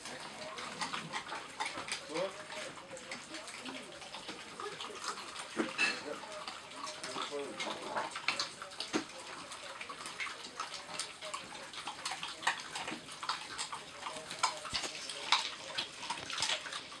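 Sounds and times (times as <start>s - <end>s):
puppies lapping water: 0.0s - 17.0s.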